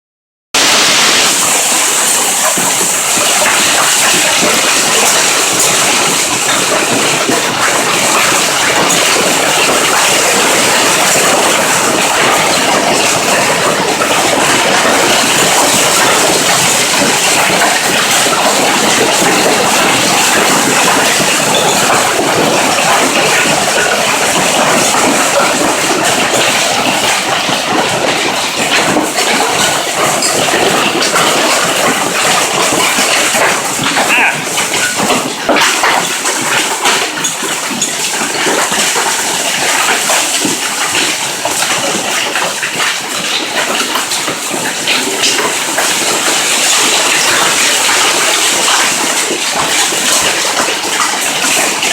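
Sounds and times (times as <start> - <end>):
hailstones clattering: 0.6 - 51.9.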